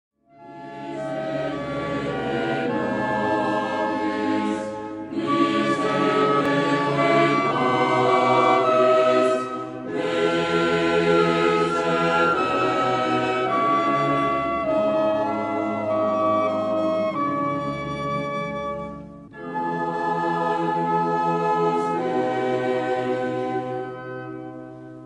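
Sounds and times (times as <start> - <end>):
choir singing: 0.4 - 17.8, 19.3 - 24.8.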